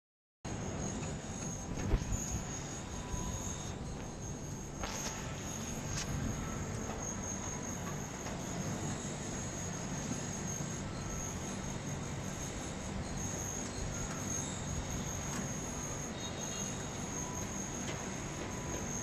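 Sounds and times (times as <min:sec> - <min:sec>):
thin high tone: 0:00.5 - 0:17.8
desk fan whirring: 0:00.5 - 0:19.0.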